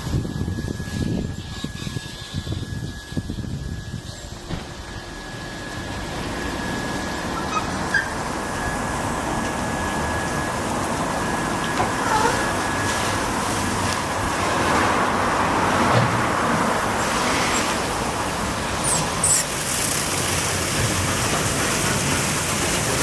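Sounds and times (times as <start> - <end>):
car wash water spray and machinery: 0.0 - 23.0.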